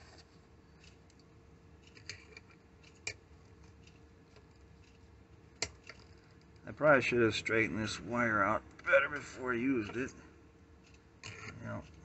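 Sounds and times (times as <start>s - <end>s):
faint steady hum: 0.0s - 12.0s
low room hiss: 0.0s - 12.0s.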